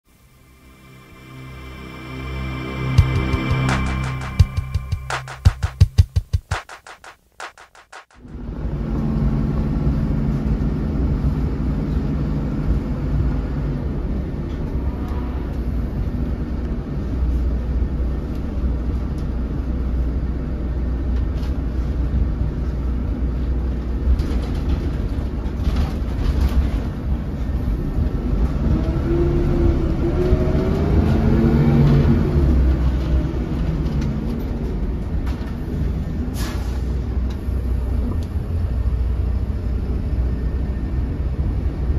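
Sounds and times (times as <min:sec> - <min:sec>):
road noise: 0:00.0 - 0:06.3, 0:08.1 - 0:41.9
bus diesel engine rumble: 0:08.3 - 0:41.9.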